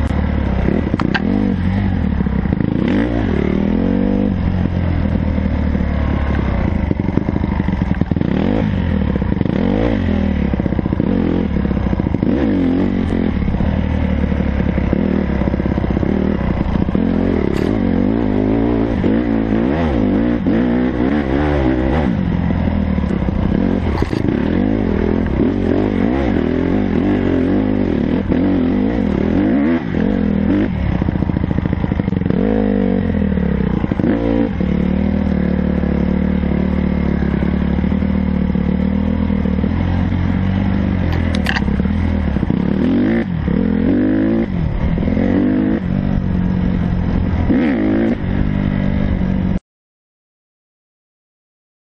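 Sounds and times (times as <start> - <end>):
dirt bike engine revving: 0.0 - 49.5.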